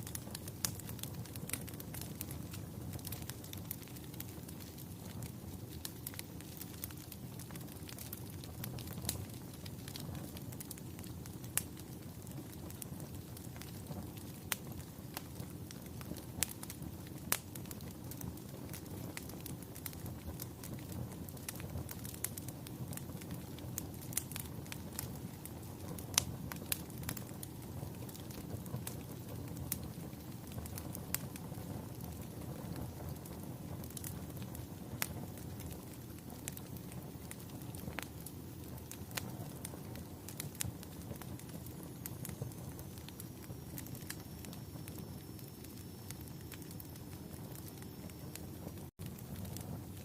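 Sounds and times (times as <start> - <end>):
fire crackling: 0.0 - 50.0
fire pops and snaps: 0.0 - 50.0.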